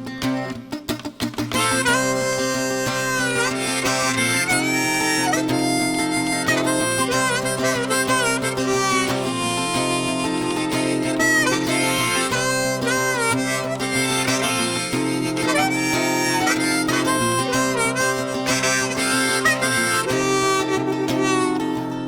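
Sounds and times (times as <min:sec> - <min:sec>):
acoustic guitar chords: 0:00.0 - 0:22.0
harmonica melody: 0:01.4 - 0:22.0.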